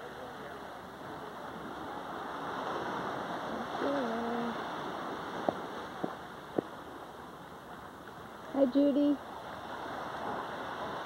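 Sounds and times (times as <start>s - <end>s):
surf and wind: 0.0s - 11.0s.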